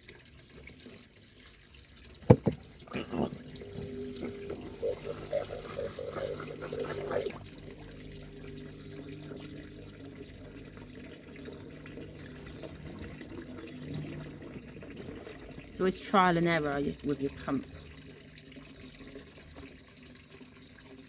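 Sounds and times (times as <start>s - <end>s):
pump humming: 0.0s - 21.0s
water pouring and trickling: 0.0s - 21.0s.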